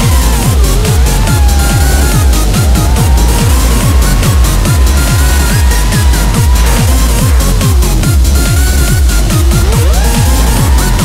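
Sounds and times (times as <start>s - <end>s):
techno dance music: 0.0s - 11.0s.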